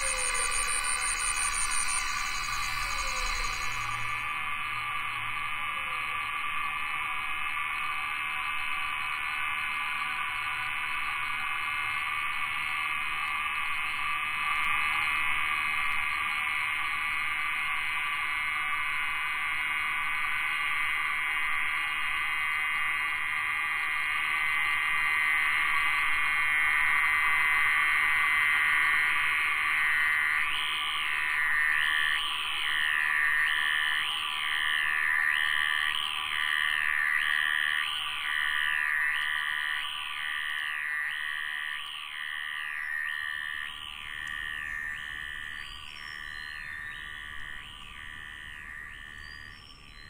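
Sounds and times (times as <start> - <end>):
insects and frogs chorus: 0.0 - 50.0.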